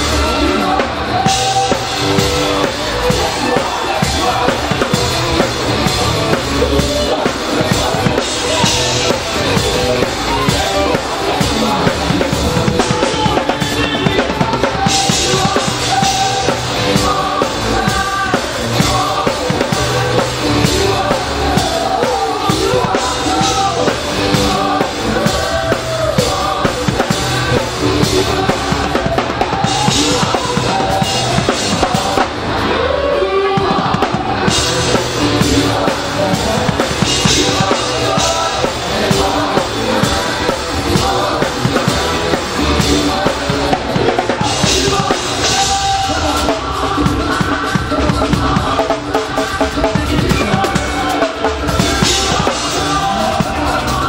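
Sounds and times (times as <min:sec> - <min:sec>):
drum kit: 0:00.0 - 0:54.0
live gospel band playing: 0:00.0 - 0:54.0.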